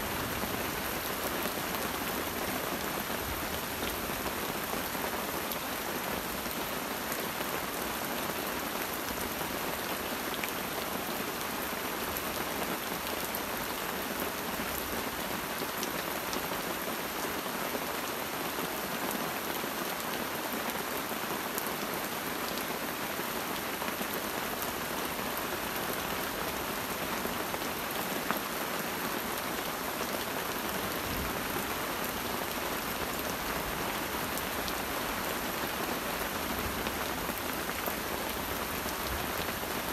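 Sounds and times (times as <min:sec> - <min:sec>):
rain falling on forest: 0:00.0 - 0:39.9.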